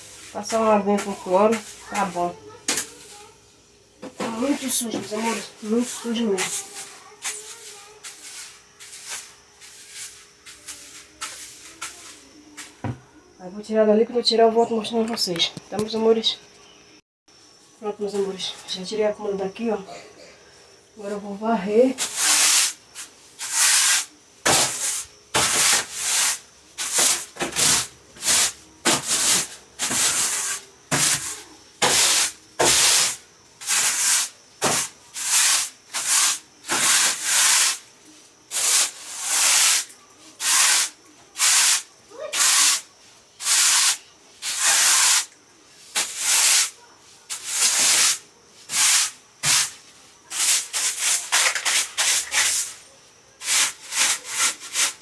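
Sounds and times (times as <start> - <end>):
broom sweeping floor: 0.0 - 13.0, 21.0 - 55.0.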